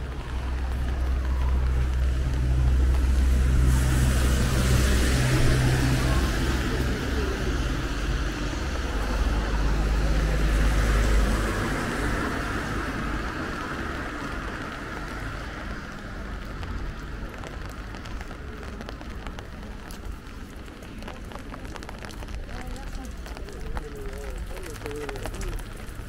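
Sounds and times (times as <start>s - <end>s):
light rain: 0.0s - 26.0s
tyres hissing on wet road: 0.0s - 26.0s.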